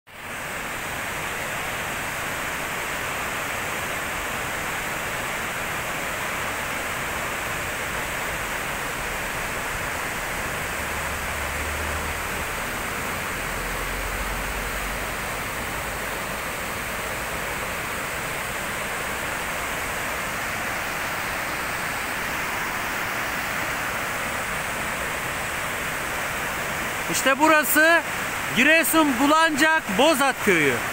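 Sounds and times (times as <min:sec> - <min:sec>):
mountain stream rushing: 0:00.1 - 0:30.9.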